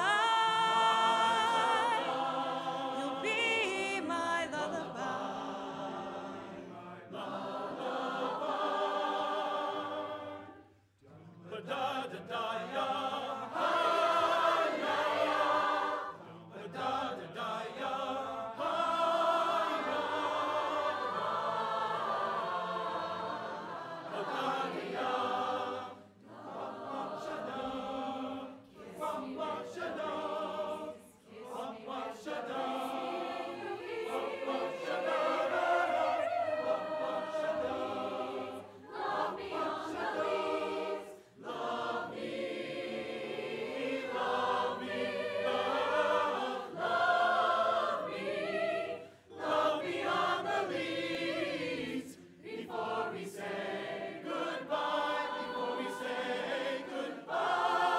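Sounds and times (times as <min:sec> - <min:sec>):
choir singing in harmony: 0:00.0 - 0:57.9.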